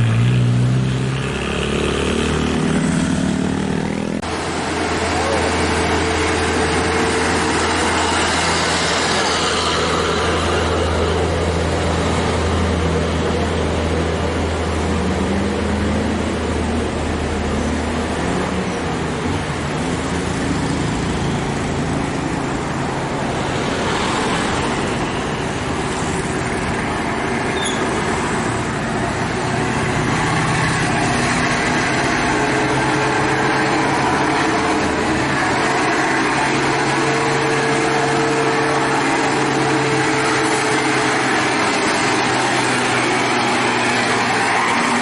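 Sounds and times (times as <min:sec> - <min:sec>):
road noise: 0:00.0 - 0:45.0
truck diesel engine straining: 0:02.3 - 0:45.0.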